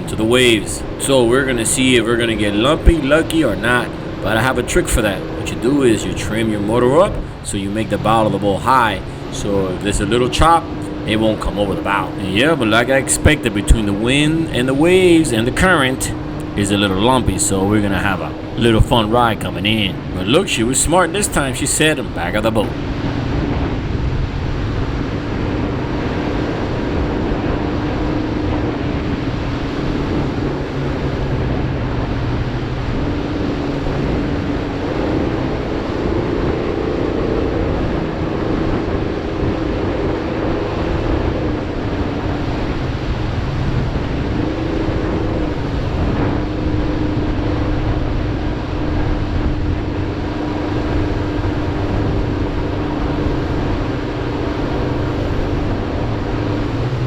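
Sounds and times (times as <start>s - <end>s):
powerboat engine running: 0.0s - 57.0s
water rushing: 0.0s - 57.0s
wind rushing: 0.0s - 57.0s.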